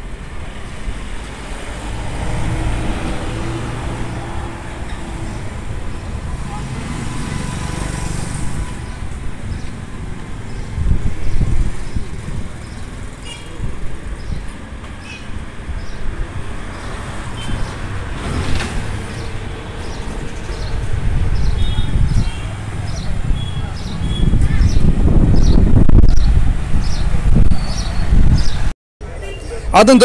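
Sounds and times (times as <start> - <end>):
low traffic rumble: 0.0 - 30.0
motorbikes passing: 1.1 - 14.4, 15.4 - 30.0.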